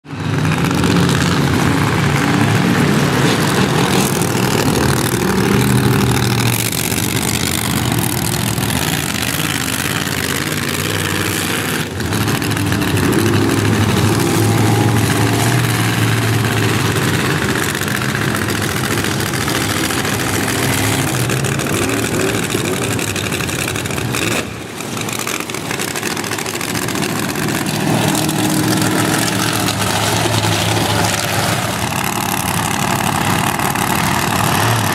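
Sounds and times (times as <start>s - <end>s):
monster truck engine revving: 0.0s - 34.9s.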